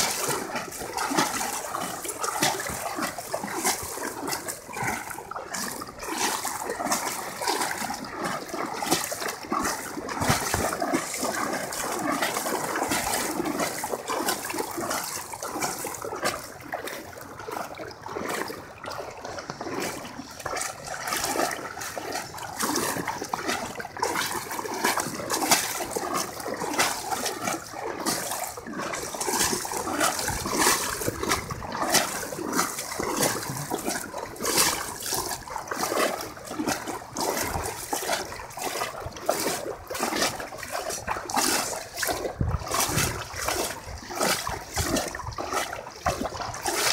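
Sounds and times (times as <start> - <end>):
floodwater splashing and trickling: 0.0 - 46.9.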